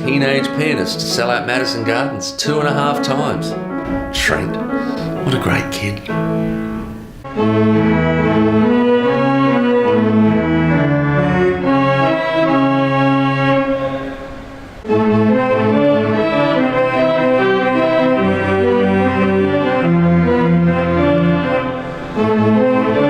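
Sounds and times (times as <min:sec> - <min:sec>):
music with long held notes: 0:02.7 - 0:23.0.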